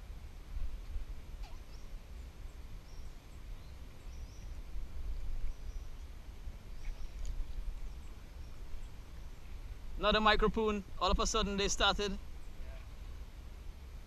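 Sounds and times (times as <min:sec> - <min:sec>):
wind rumble on microphone: 0:00.0 - 0:12.9.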